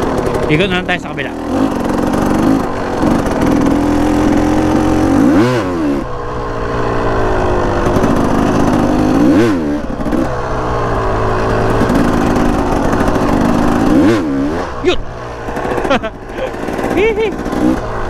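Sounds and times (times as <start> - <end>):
motorcycle engine revving: 0.0 - 18.0
motorcycle engine running: 0.0 - 18.0.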